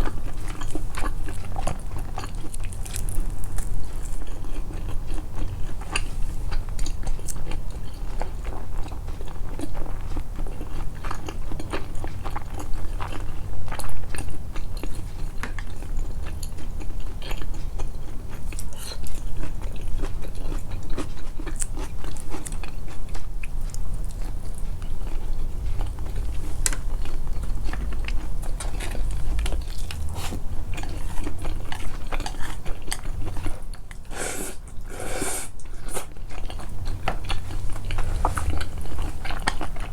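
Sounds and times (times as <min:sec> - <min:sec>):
person chewing and biting: 0:00.0 - 0:39.9
steady low hum: 0:00.0 - 0:39.9.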